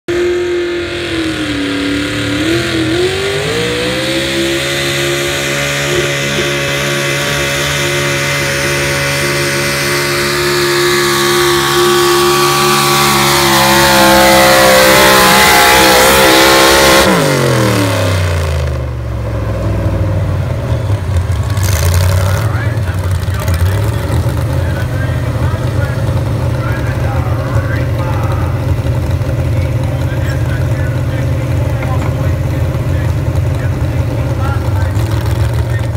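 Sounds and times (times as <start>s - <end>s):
truck engine at full throttle: 0.0s - 35.9s.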